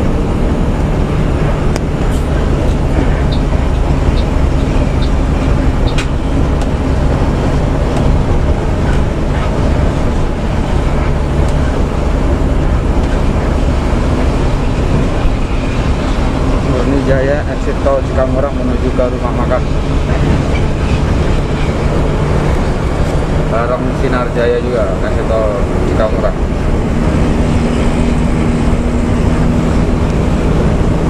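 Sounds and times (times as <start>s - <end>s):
diesel engine drone: 0.0s - 31.0s
road noise: 0.0s - 31.0s.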